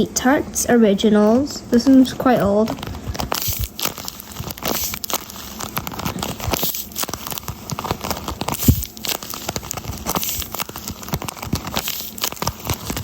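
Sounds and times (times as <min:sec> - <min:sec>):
paper and tape crinkling: 0:01.0 - 0:13.0.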